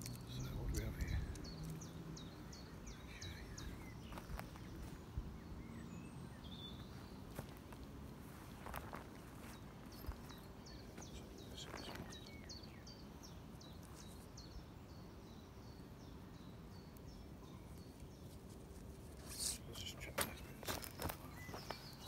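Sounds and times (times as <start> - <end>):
outdoor background noise: 0.0 - 22.0
small bird chirping: 0.0 - 22.0.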